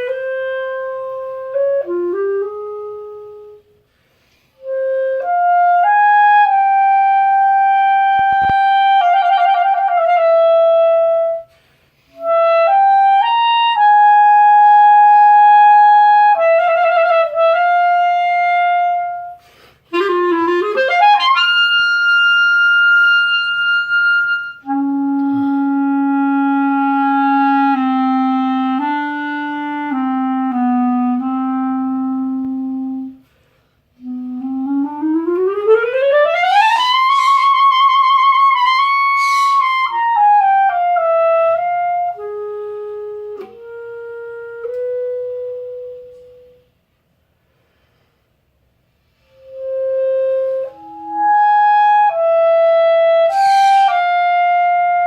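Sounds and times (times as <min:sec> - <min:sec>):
solo clarinet playing: 0:00.0 - 0:46.9, 0:49.1 - 0:55.0.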